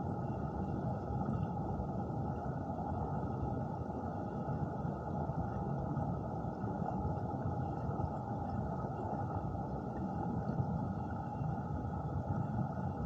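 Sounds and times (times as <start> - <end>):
muffled stream water underwater: 0.0 - 13.0.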